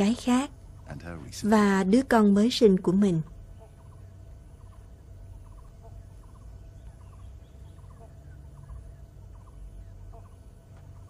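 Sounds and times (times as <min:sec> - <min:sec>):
small animal calling: 0:00.0 - 0:11.0.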